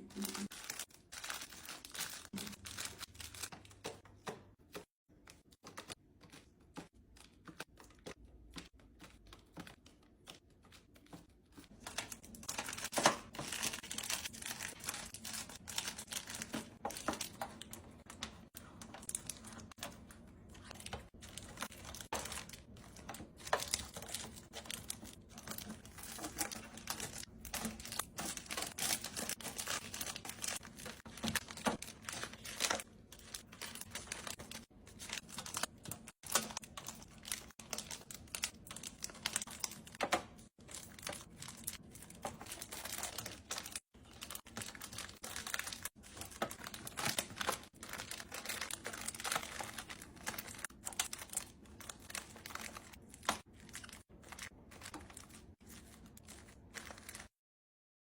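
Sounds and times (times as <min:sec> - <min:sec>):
plastic packaging crinkling: 0:00.0 - 0:04.3, 0:05.3 - 0:57.3.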